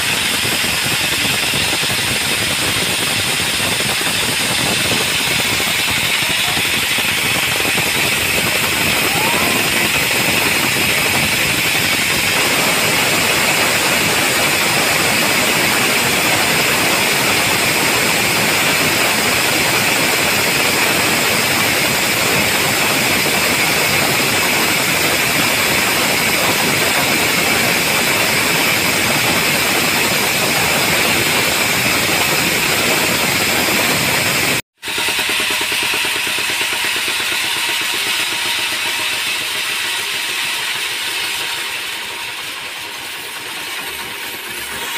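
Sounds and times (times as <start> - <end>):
band saw cutting log: 0.0 - 44.9
diesel engine chugging: 0.0 - 44.9.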